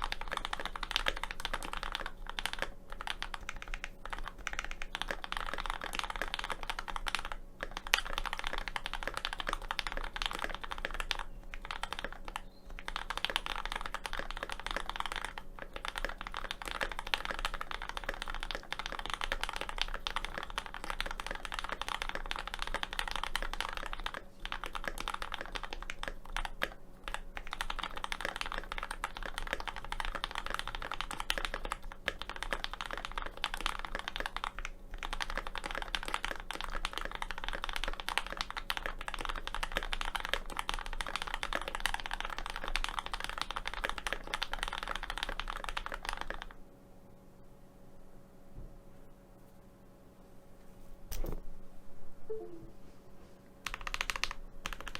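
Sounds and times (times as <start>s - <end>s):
fast mechanical keyboard typing: 0.0s - 46.6s, 53.6s - 54.9s.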